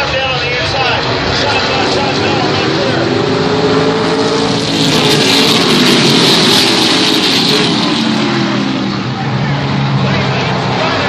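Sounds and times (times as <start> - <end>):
racing truck engines passing: 0.0 - 11.0.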